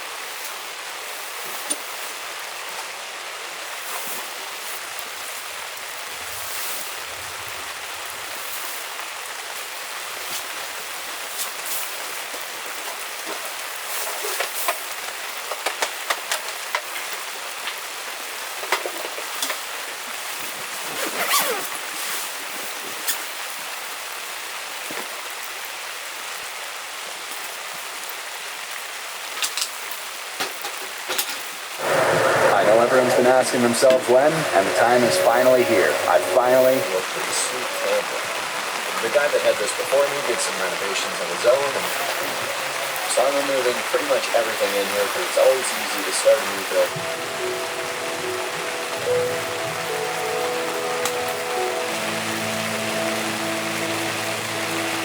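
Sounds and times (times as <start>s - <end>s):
raindrops ticking and tapping: 0.0s - 55.0s
steady rain hiss: 0.0s - 55.0s.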